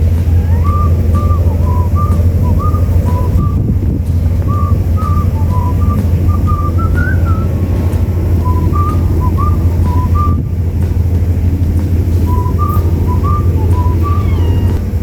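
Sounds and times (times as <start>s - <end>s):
high whistled chirps: 0.0s - 15.0s
loud low rumble: 0.0s - 15.0s.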